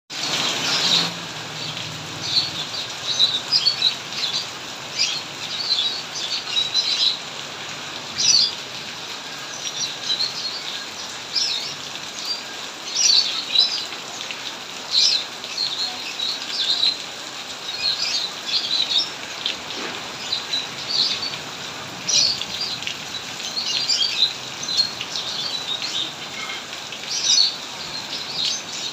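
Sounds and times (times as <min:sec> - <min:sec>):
rain hiss: 0:00.1 - 0:28.9
birds chirping: 0:00.3 - 0:28.9.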